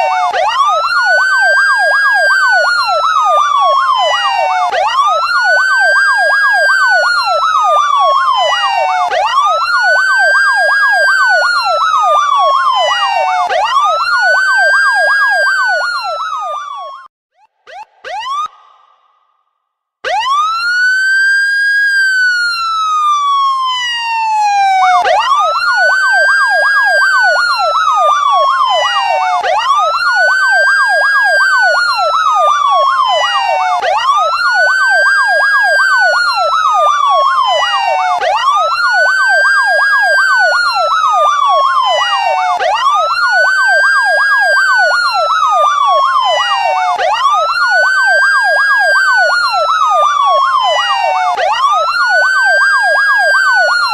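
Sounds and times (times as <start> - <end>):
fast siren yelp: 0.0 - 19.1, 20.0 - 53.9
police siren wail: 0.0 - 19.2, 20.0 - 53.9.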